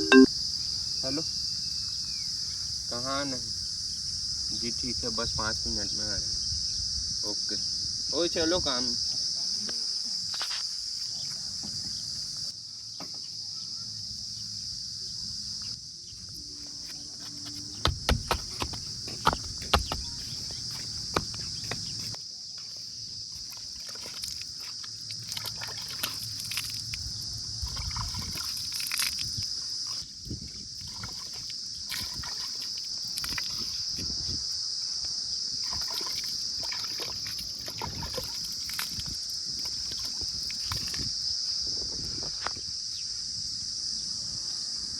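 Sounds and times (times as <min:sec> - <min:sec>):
crickets chirring: 0:00.0 - 0:44.9.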